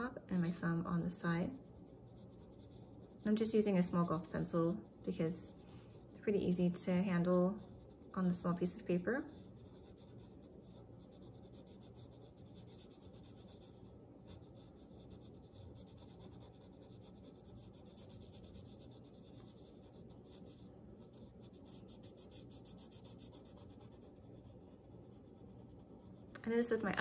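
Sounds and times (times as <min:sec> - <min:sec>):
pencil scratching on paper: 0:01.6 - 0:27.0.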